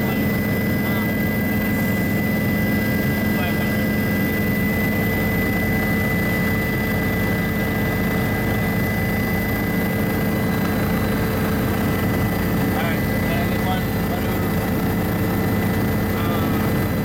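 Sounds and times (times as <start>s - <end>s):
helicopter engine and rotor drone: 0.0s - 17.0s
high whine: 0.0s - 17.0s.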